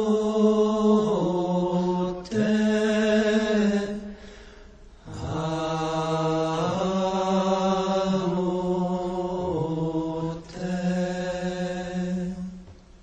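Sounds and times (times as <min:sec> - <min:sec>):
chanted vocal music: 0:00.0 - 0:13.0.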